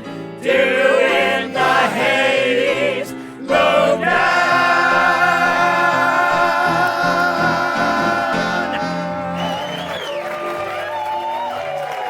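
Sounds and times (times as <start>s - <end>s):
ensemble singing with backing music: 0.0s - 10.2s.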